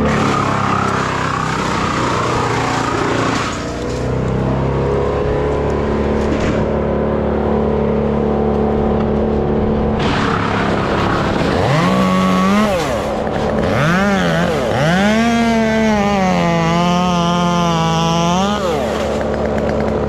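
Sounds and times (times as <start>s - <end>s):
chainsaw revving: 0.0s - 6.7s, 10.0s - 20.0s.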